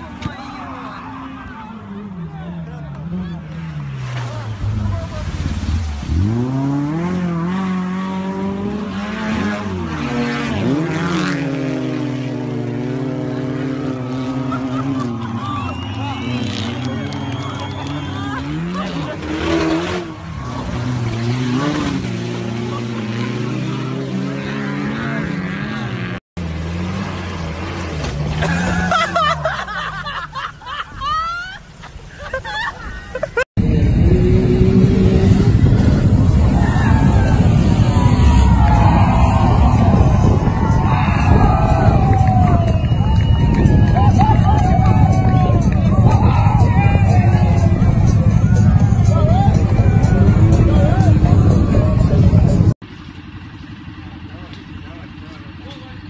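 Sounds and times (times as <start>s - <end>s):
onlookers shouting and laughing: 0.0s - 25.8s, 28.4s - 33.9s, 35.0s - 52.8s
off-road engine revving hard: 0.8s - 30.2s, 33.6s - 52.9s.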